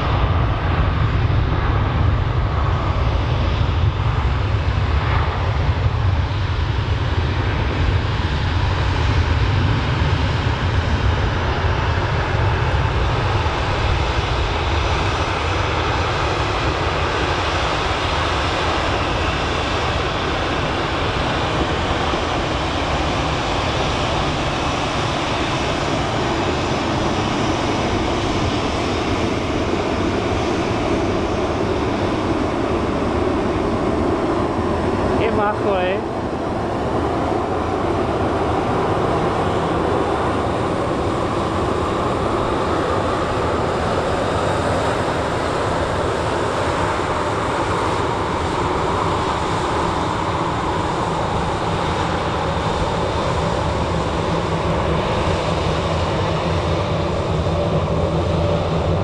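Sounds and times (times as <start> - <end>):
airliner taxiing engine whine: 0.0 - 59.0.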